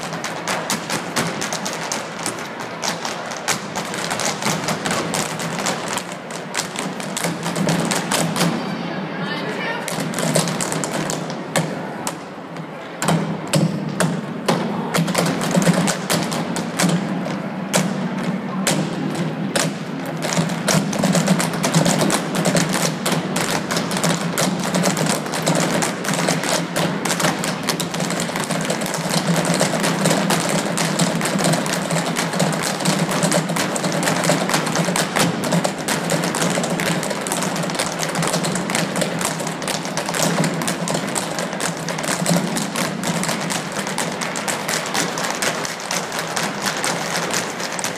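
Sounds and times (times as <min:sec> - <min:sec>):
hard shoes tapping on stage floor: 0:00.0 - 0:08.6, 0:09.9 - 0:47.9.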